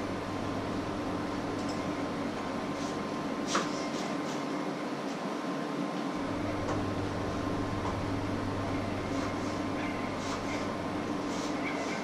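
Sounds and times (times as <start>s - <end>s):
low mains hum: 0.0s - 12.0s.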